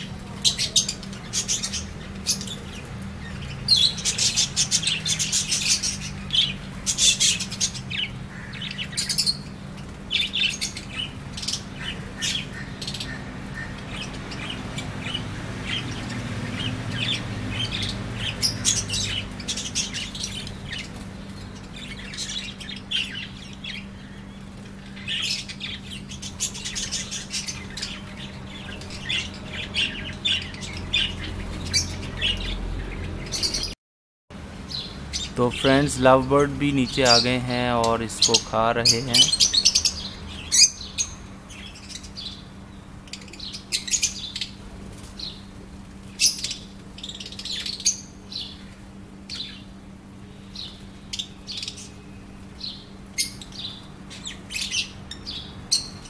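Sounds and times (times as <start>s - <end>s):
budgerigars chirping and chattering: 0.0s - 33.8s, 34.7s - 44.6s, 46.1s - 48.7s, 50.5s - 56.0s.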